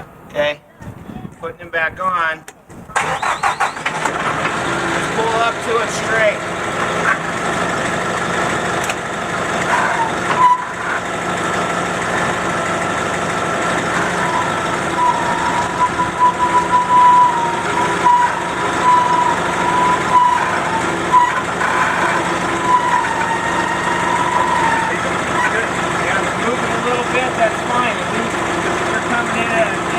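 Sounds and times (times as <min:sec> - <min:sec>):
forklift engine running: 0:00.0 - 0:29.9.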